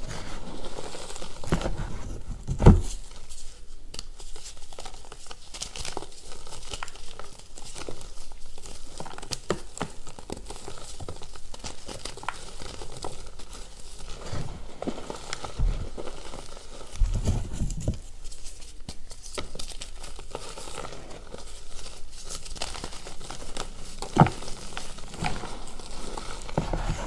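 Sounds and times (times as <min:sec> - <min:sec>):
chalk chunks crunching: 0:04.7 - 0:27.0.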